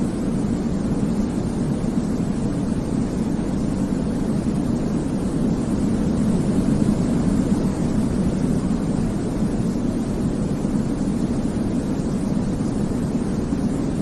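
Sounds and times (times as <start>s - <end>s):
low white noise rumble: 0.0s - 14.0s.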